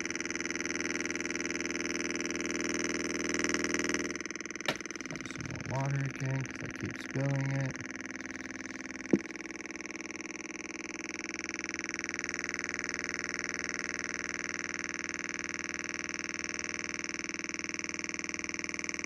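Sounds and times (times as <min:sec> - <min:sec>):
harsh electronic buzz: 0:00.0 - 0:19.0.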